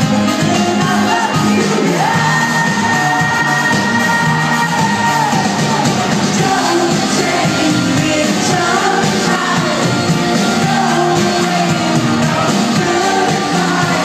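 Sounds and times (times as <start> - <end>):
live indie rock band: 0.0 - 14.0
people singing: 0.0 - 14.0.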